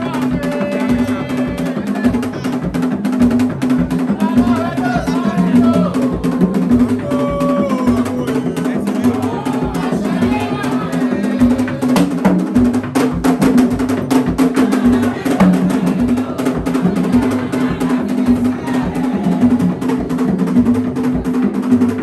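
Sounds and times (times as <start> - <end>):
fast ceremonial drumming: 0.0 - 22.0.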